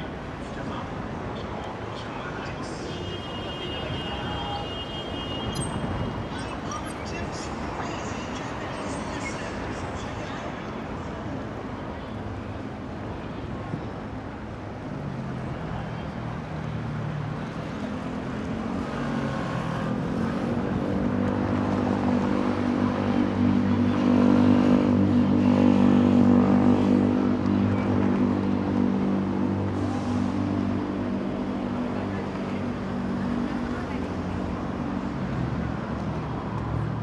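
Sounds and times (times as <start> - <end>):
city road traffic: 0.0 - 37.0.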